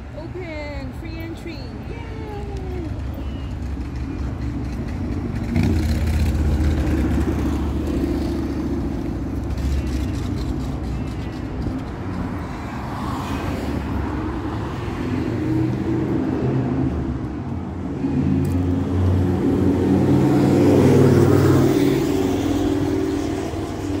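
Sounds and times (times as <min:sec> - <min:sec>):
passing car engines and tyres: 0:00.0 - 0:24.0.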